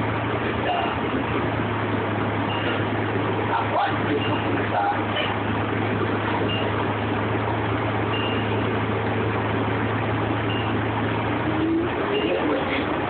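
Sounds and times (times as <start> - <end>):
bus drivetrain hum: 0.0 - 13.0
road noise: 0.0 - 13.0.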